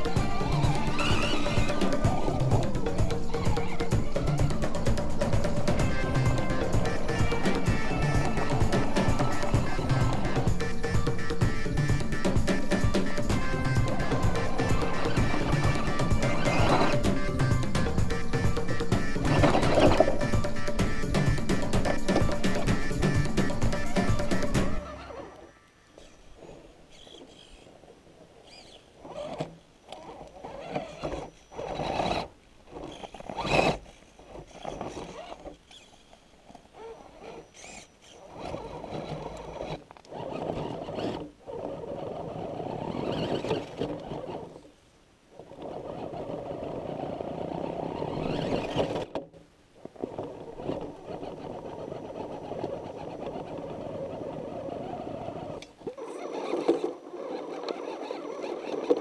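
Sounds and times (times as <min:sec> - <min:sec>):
toy car electric motor whining: 0:00.0 - 0:44.7, 0:45.3 - 0:49.2, 0:49.9 - 0:59.0.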